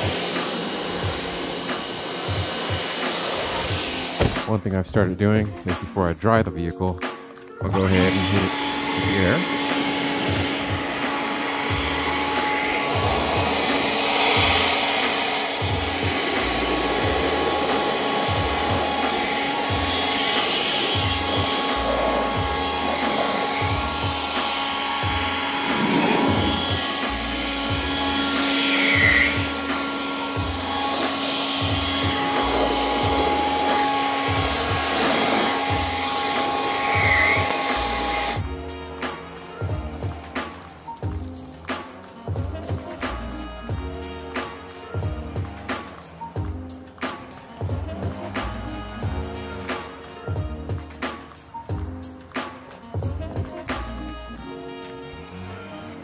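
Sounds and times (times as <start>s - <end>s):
electric air blower whining: 0.0s - 4.7s, 7.0s - 56.0s.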